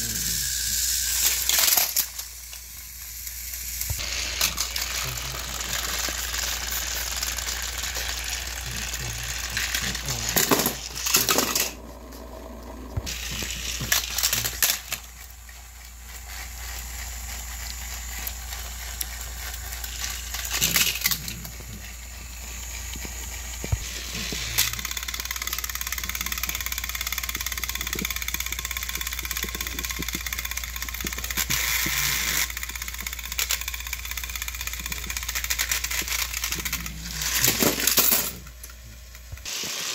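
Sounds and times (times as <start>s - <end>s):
toy train sharp clacks: 0.0s - 11.8s, 13.1s - 39.9s
toy train whirring rattle: 0.0s - 12.2s, 13.0s - 39.9s.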